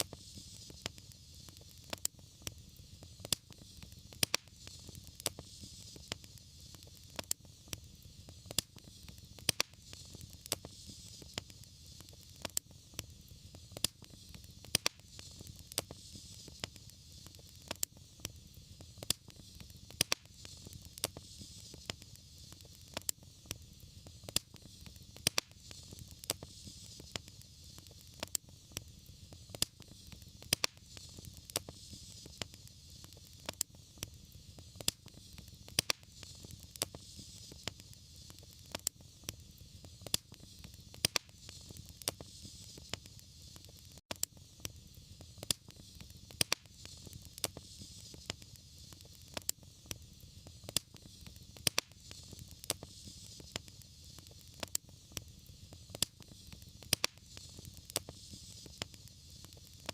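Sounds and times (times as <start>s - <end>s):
fire crackling and popping: 0.0s - 59.9s
soft hiss and low rumble of fire: 0.0s - 59.9s.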